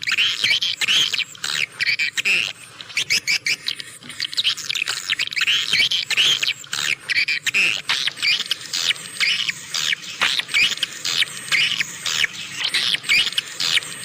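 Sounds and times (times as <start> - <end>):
swiftlets twittering: 0.0 - 14.0.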